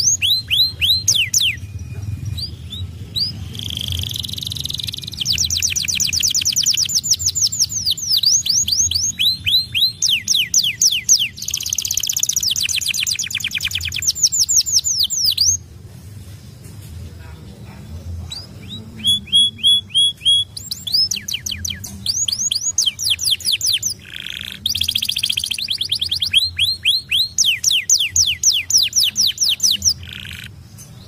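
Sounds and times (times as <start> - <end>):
canary singing: 0.0 - 15.7, 17.2 - 31.0.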